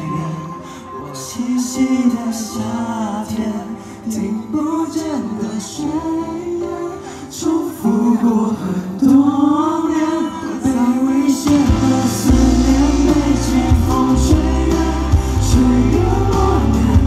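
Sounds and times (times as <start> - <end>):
instrumental backing music: 0.0 - 17.0
men singing pop song: 0.0 - 17.0.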